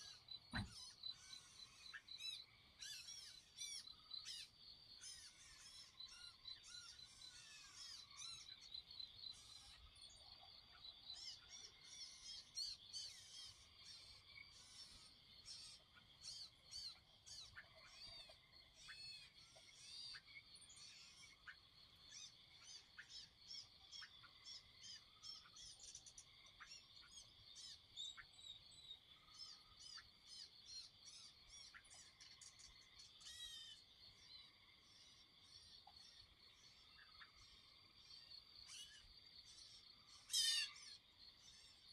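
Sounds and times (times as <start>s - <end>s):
birds chirping and calling: 0.0s - 33.9s, 39.9s - 41.0s.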